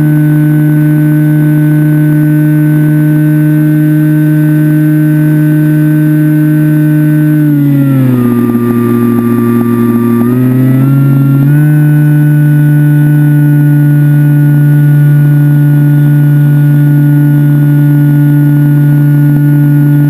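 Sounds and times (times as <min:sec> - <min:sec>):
electric motor and propeller whine: 0:00.0 - 0:20.0.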